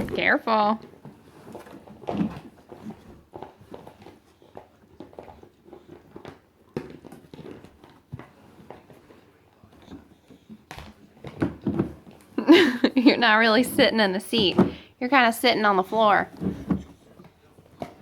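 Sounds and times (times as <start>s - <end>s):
light knocks and bumps: 0.0s - 12.5s, 13.6s - 14.9s, 16.2s - 18.0s.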